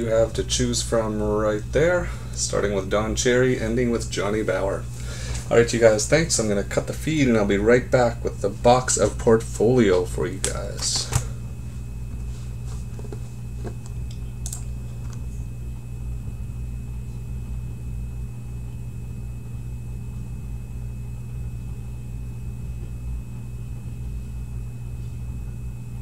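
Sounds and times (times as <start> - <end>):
faint high whine: 0.0 - 26.0
steady low hum: 0.0 - 26.0.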